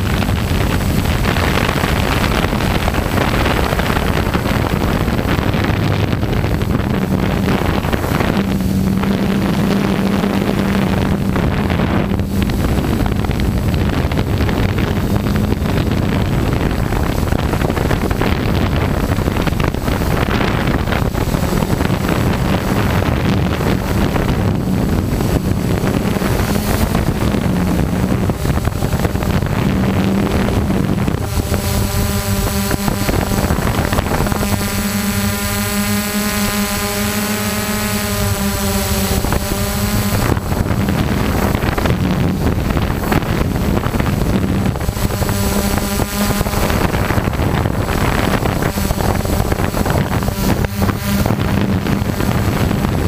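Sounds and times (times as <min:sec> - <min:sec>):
drone propellers buzzing: 0:00.0 - 0:53.0
wind rushing over microphone: 0:00.0 - 0:53.0.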